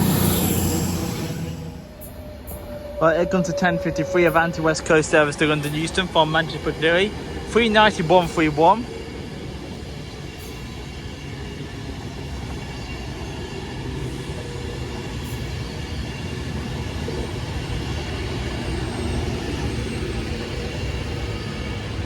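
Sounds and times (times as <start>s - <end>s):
train traction hum: 0.0s - 22.0s
train wheels rumbling: 0.0s - 22.0s.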